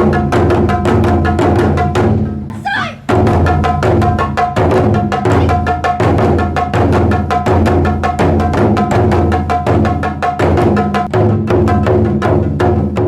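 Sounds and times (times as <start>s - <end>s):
taiko drums playing: 0.0s - 13.0s.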